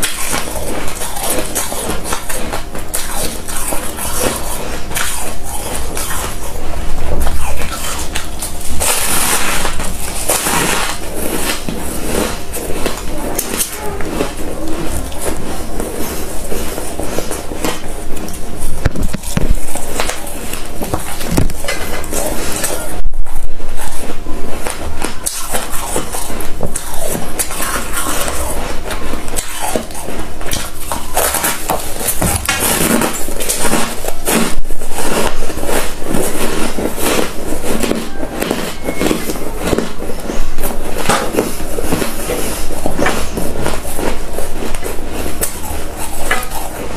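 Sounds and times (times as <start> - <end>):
frost crunching being chewed: 0.0 - 46.9.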